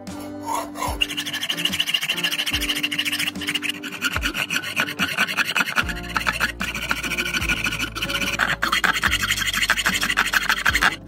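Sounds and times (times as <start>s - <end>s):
background music: 0.0s - 11.0s
hacksaw rasping on steel: 0.2s - 11.0s.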